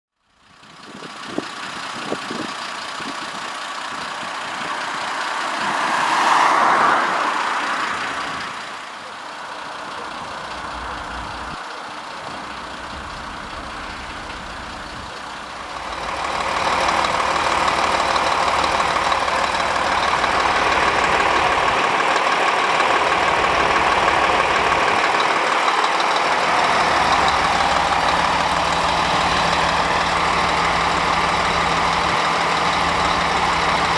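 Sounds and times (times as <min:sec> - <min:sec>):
diesel engine idling: 0:00.1 - 0:33.9.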